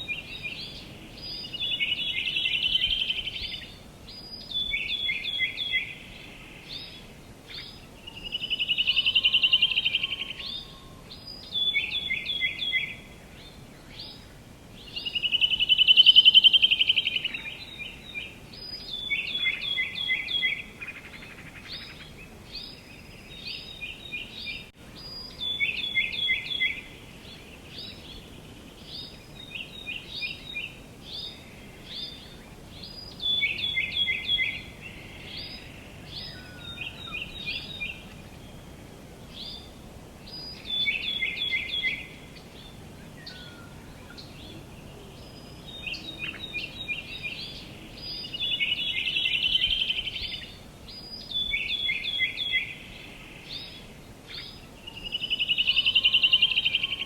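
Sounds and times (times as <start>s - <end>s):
outdoor background noise: 0.0s - 57.0s
songbird singing: 0.0s - 57.0s.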